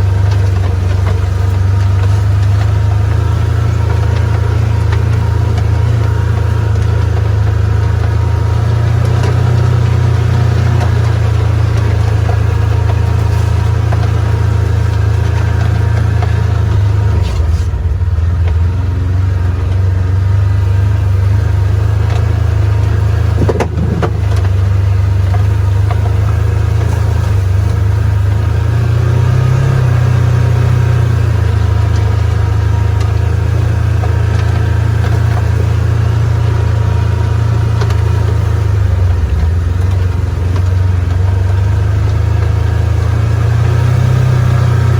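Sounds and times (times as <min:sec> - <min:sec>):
vehicle engine droning: 0:00.0 - 0:44.9.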